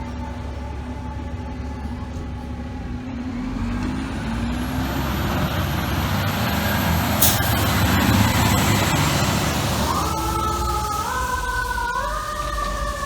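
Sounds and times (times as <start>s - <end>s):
fire truck diesel engine: 0.0s - 13.0s.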